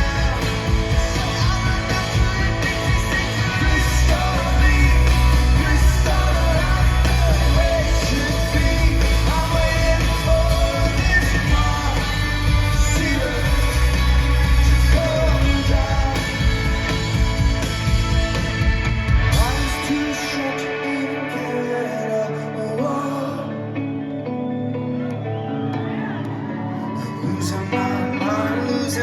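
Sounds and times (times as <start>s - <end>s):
man singing: 0.0s - 17.0s, 19.3s - 24.2s, 26.8s - 29.0s
rock band playing live: 0.0s - 29.0s.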